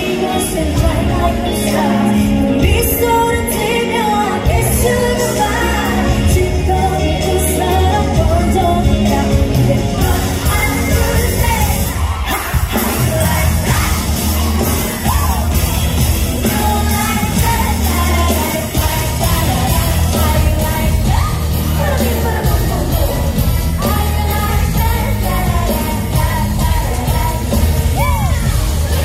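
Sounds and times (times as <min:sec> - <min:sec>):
pop backing track with bass beat: 0:00.0 - 0:29.0
woman singing into microphone: 0:00.0 - 0:29.0.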